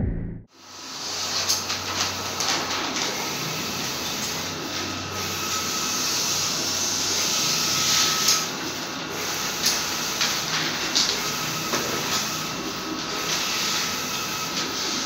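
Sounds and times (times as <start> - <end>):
printer fans whirring: 0.6 - 15.0.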